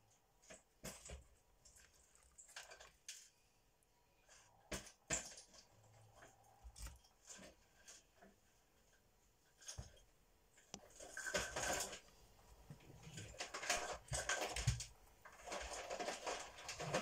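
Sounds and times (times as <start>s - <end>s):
rustling handling noise: 0.0s - 17.0s.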